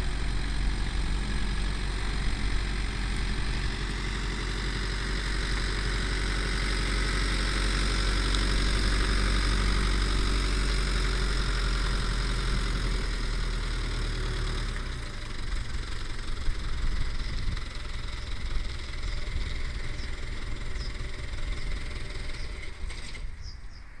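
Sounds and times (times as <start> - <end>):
diesel engine idling: 0.0 - 23.5.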